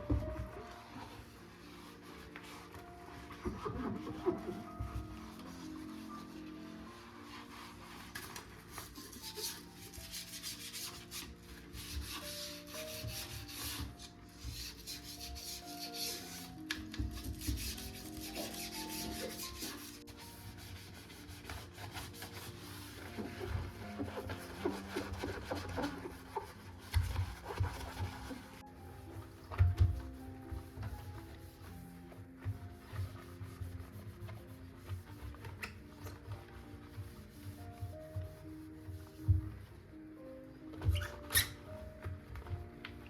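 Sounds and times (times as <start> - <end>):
scrubbing strokes on a surface: 0.0 - 39.6
soft background music: 0.0 - 43.0.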